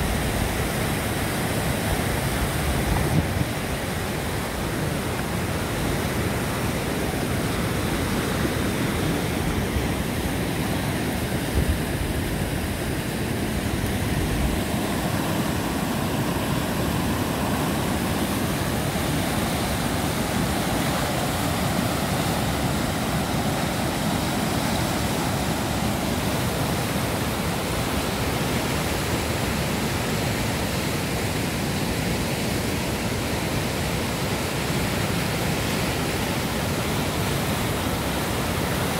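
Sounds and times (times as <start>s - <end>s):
floodwater rushing over rocks: 0.0s - 38.9s.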